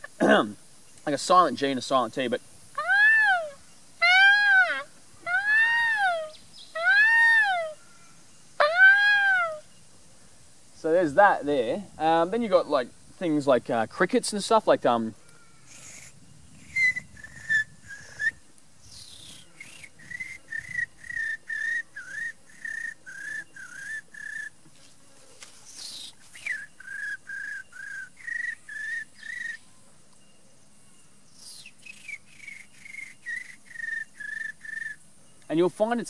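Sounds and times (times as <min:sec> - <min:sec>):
man imitating cricket chirps: 0:00.0 - 0:09.9, 0:10.7 - 0:24.6, 0:25.7 - 0:36.0.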